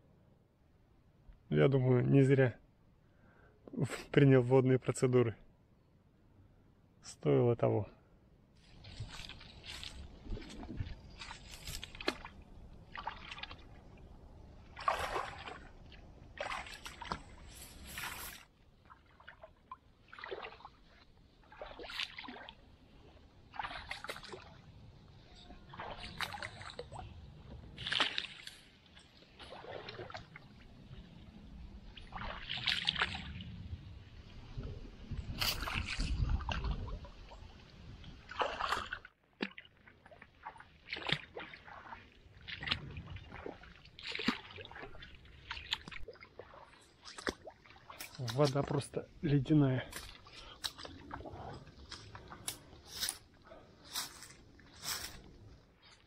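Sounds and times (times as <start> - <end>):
footsteps sloshing through water: 8.5 - 56.0.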